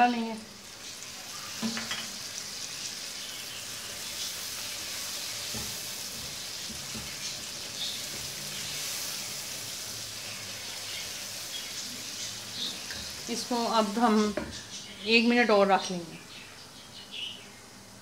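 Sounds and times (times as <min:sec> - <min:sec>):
spices sizzling in oil: 0:00.0 - 0:18.0.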